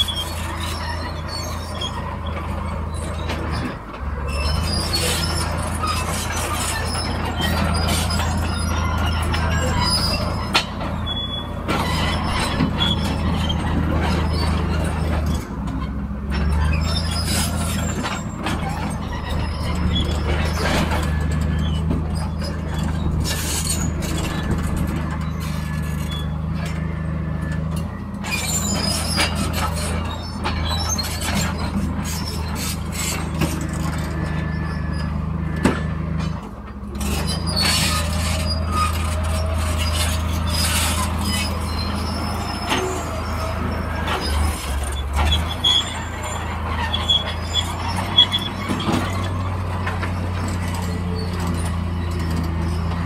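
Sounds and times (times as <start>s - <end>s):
diesel engines droning: 0.0s - 53.0s.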